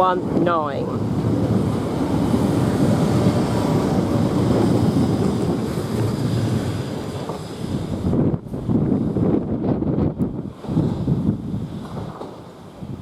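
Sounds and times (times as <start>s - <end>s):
train rumbling past: 0.0s - 13.0s
wind buffeting microphone: 0.0s - 13.0s.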